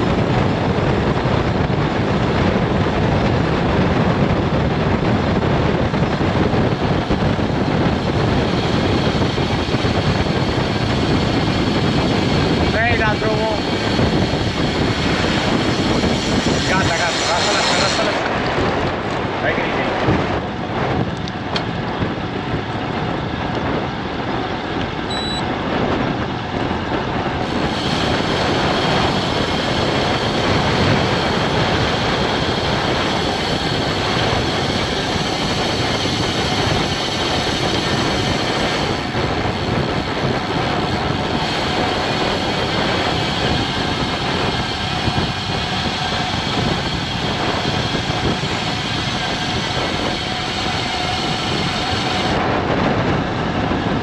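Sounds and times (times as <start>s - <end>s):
bike tyres rolling on asphalt: 0.0s - 54.0s
wind buffeting microphone: 0.0s - 54.0s.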